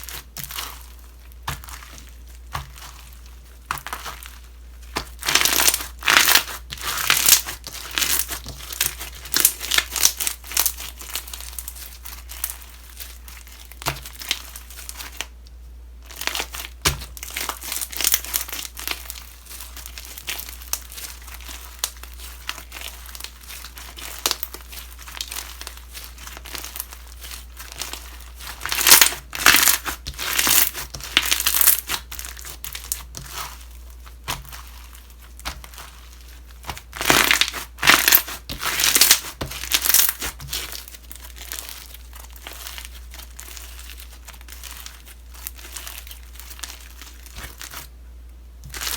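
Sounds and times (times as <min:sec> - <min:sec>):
slime squished by hand: 0:00.0 - 0:15.4, 0:16.0 - 0:48.0.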